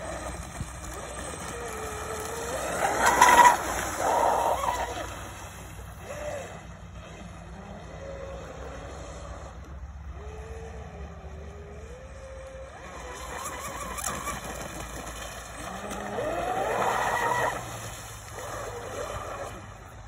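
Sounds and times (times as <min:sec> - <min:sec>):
electric boat motor whining: 0:00.0 - 0:20.0.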